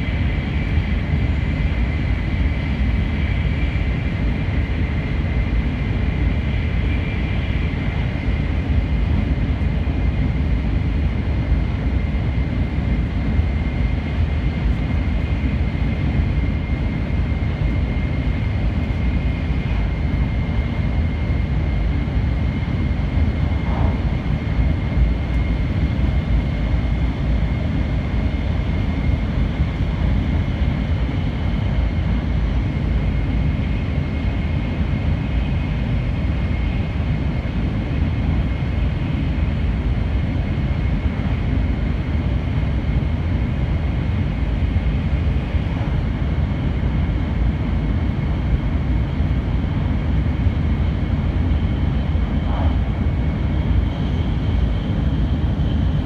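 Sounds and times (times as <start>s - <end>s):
train interior low rumble: 0.0s - 56.0s.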